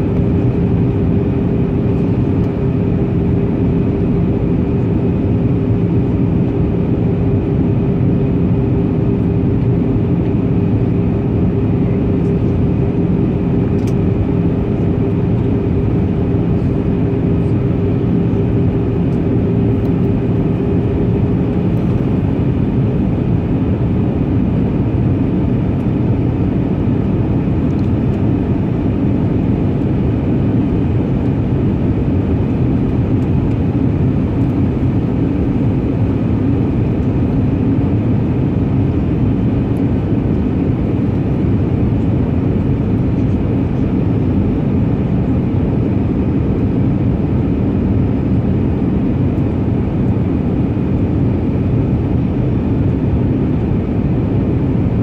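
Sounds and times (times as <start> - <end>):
airplane cabin engine noise: 0.0 - 55.0.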